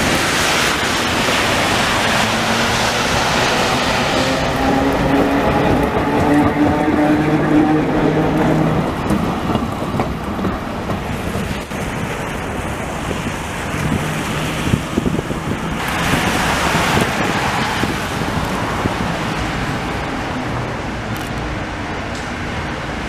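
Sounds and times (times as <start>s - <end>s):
wind on microphone: 0.0s - 20.3s
tram rolling past: 0.0s - 23.0s
wet street traffic noise: 0.0s - 23.0s.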